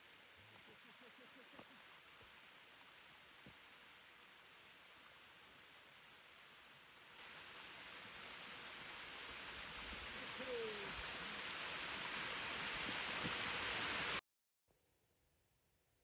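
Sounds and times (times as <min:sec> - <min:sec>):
flowing water rushing: 0:00.0 - 0:14.2.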